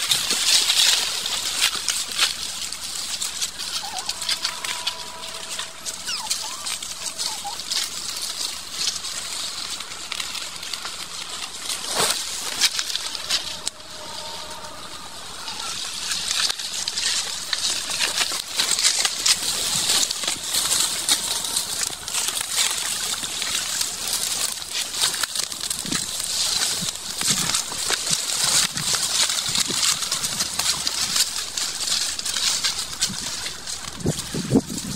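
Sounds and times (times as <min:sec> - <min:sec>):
branches rustling and snapping: 0:00.0 - 0:34.9.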